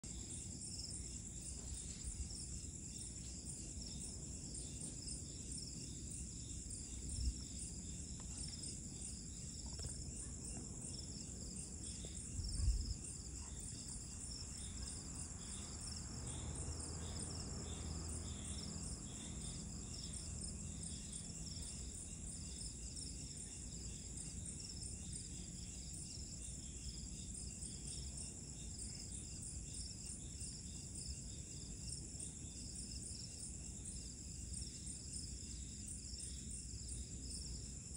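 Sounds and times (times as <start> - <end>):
night insects chirping: 0.0 - 37.9.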